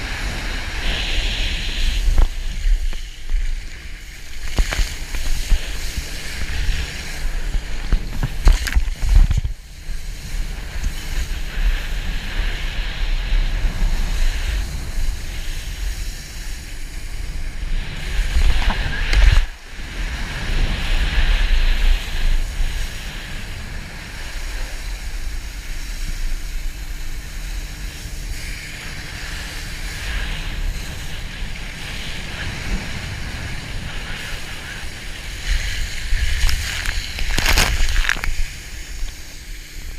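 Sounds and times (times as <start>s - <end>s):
rushing hiss of spray: 0.0s - 39.9s
wind buffeting microphone: 0.0s - 39.9s.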